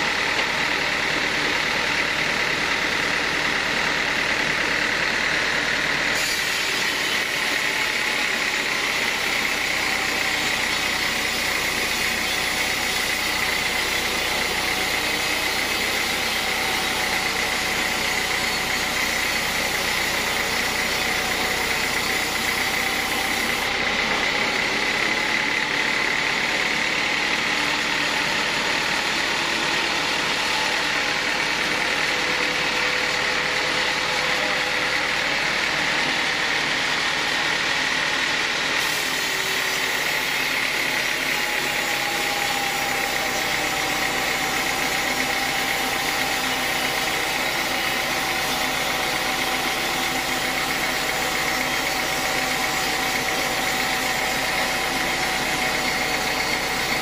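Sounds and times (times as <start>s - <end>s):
band saw whining through log: 0.0s - 57.0s.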